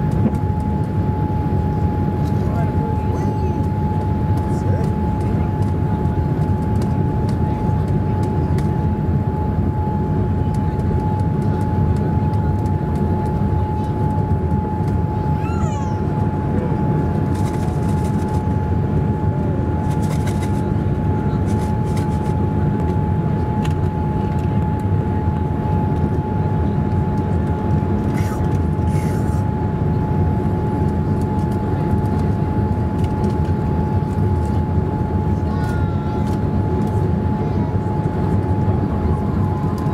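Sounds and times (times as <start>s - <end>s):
jet engine and airflow rush: 0.0s - 39.9s
steady whine: 0.0s - 39.9s.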